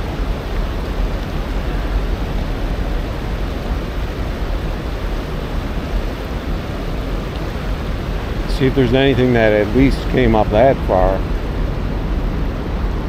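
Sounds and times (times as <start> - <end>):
white water tumbling over rocks: 0.0 - 13.0.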